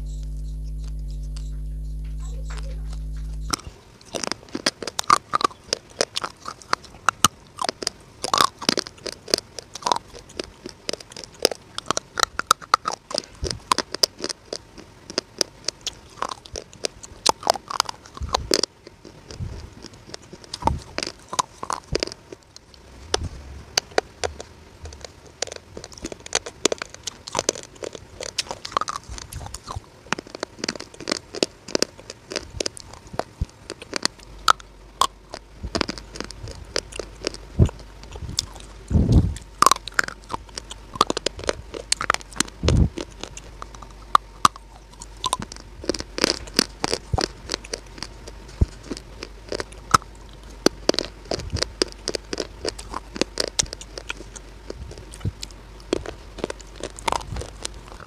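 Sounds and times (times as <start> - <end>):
crunching and chewing clay: 0.0 - 58.0.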